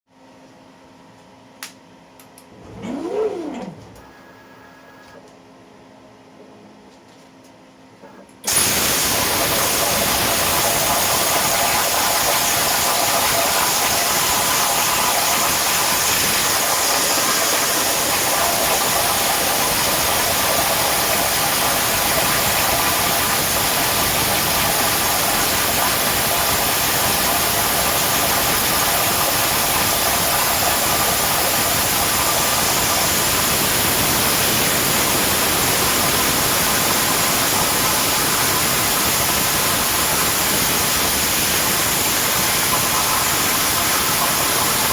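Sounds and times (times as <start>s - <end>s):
plasma torch cutting hiss: 8.4s - 44.9s.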